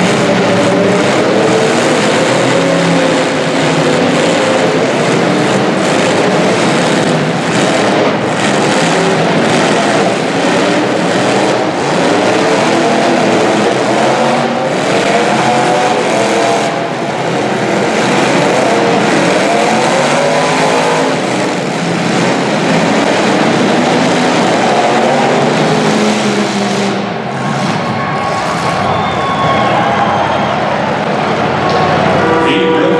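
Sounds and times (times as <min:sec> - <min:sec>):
car engines revving: 0:00.0 - 0:32.9.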